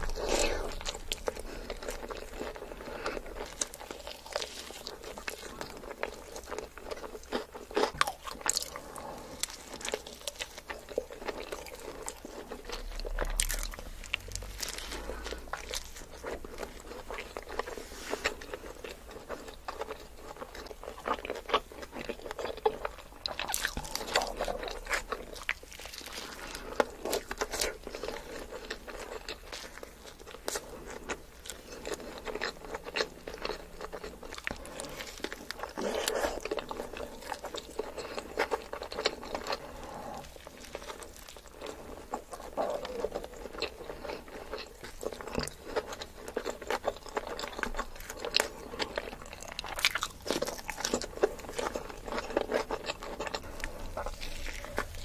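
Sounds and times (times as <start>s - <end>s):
chewing with crunching: 0.0s - 55.0s.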